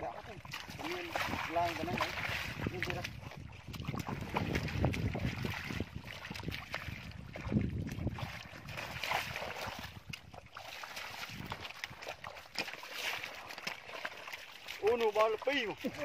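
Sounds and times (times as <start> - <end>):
bare feet squelching through mud: 0.0 - 16.0.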